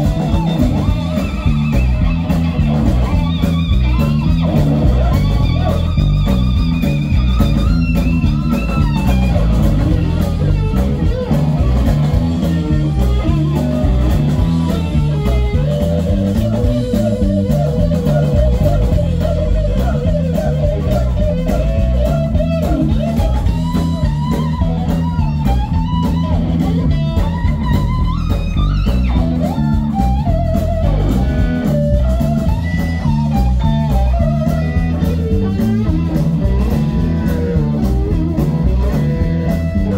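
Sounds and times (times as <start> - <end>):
bending lead guitar notes: 0.0 - 39.9
blues rock band playing: 0.0 - 39.9.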